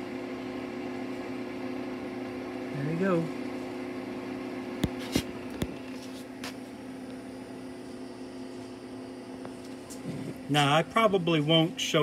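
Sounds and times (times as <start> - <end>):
welder humming at idle: 0.0 - 12.0.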